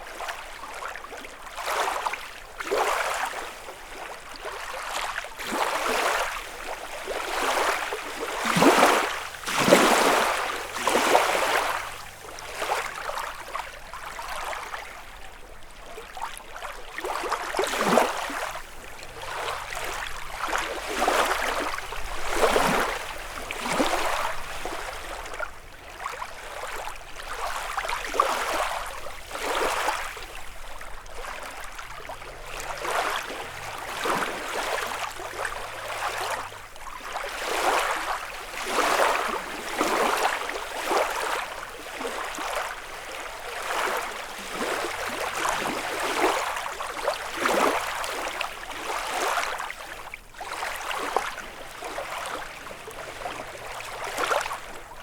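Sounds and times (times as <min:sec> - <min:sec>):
lake waves lapping against shore: 0:00.0 - 0:55.0.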